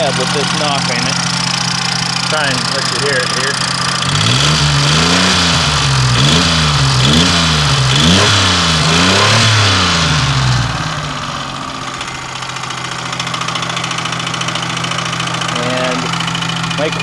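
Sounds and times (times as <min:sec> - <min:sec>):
car engine revving and idling: 0:00.0 - 0:17.0
engine knocking: 0:00.0 - 0:17.0.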